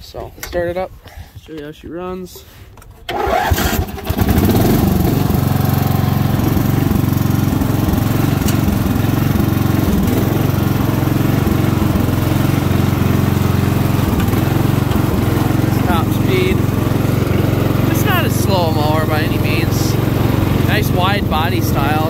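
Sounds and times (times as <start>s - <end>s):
mower engine starting and running: 2.9s - 22.0s.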